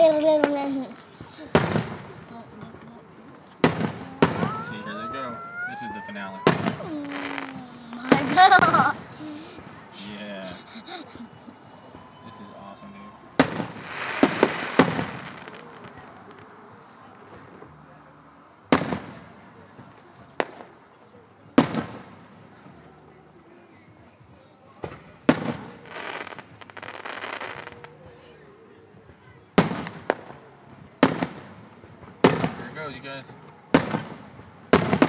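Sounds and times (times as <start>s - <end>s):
fireworks booming: 0.0s - 17.8s, 18.6s - 20.8s, 21.6s - 22.9s, 24.8s - 28.2s, 29.6s - 35.0s
fireworks crackling: 0.0s - 21.0s, 21.6s - 23.0s, 24.8s - 28.3s, 29.0s - 35.0s.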